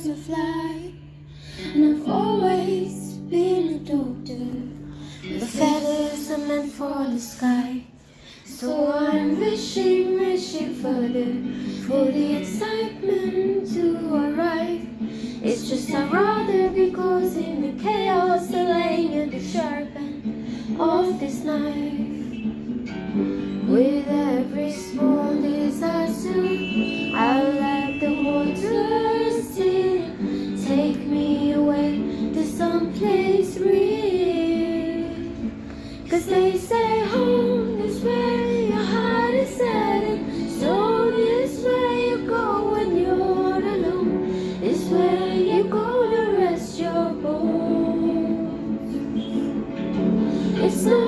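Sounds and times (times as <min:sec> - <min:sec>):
woman singing slow melody: 0:00.0 - 0:22.6, 0:23.2 - 0:51.0.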